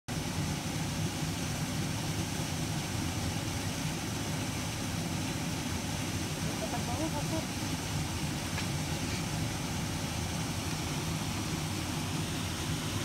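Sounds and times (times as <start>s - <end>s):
waterfall rushing: 0.1s - 13.0s.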